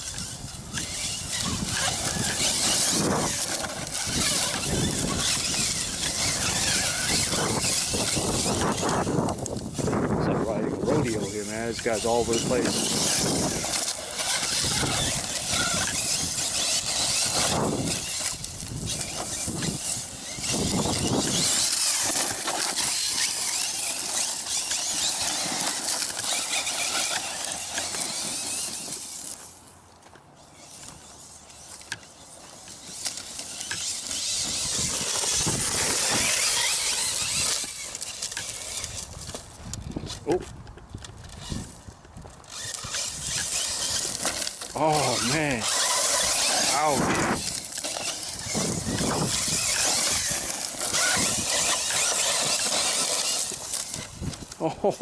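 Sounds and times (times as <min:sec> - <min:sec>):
electric motor whining: 0:00.0 - 0:29.6, 0:30.4 - 0:55.0
tyres scrabbling over gravel: 0:00.0 - 0:55.0.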